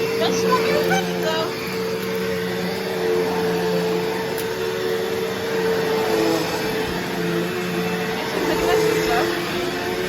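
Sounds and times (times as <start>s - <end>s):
upright vacuum running: 0.0s - 10.0s.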